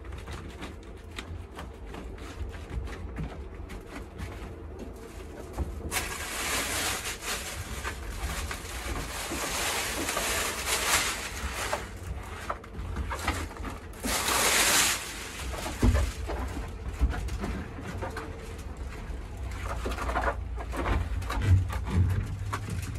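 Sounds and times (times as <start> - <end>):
foil mat crinkling under hand: 0.0 - 22.9.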